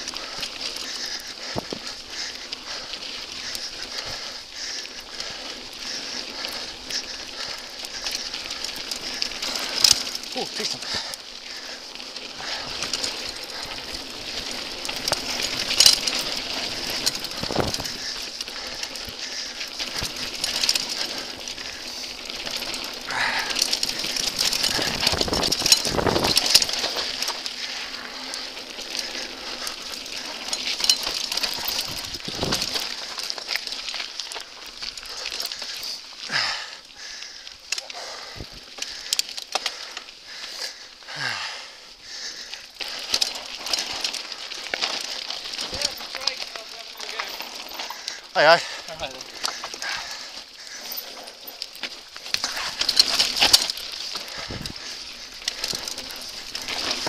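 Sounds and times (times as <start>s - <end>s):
bike clicks and knocks over bumps: 0.0s - 57.0s
bike rattling: 0.0s - 57.0s
bike tyres rolling on dirt: 0.0s - 57.0s.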